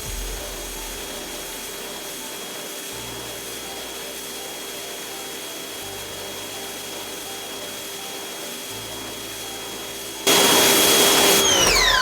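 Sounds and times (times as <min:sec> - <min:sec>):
pressure washer spraying: 0:00.0 - 0:05.2, 0:05.8 - 0:12.0.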